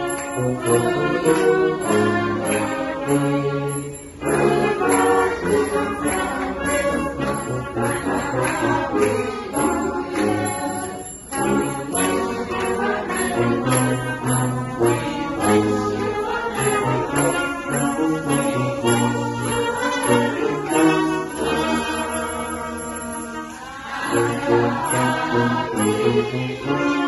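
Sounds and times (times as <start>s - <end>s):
brass band playing chords: 0.0s - 27.0s.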